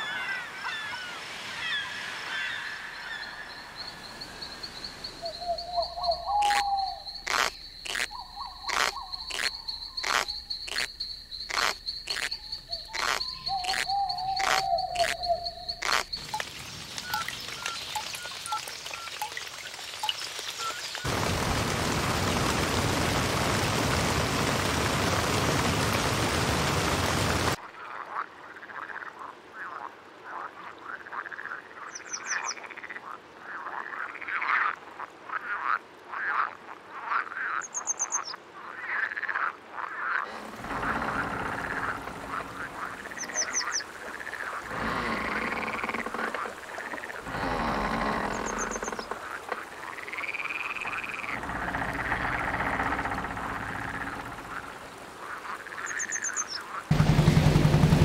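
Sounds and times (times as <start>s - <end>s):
frogs croaking: 2.3s - 22.9s, 27.1s - 56.9s.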